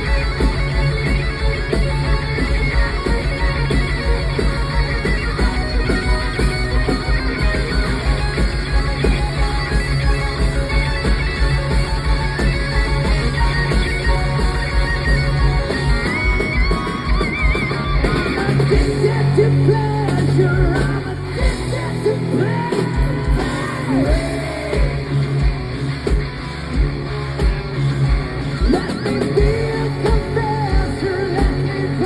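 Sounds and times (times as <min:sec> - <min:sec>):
hard rock band playing: 0:00.0 - 0:32.0.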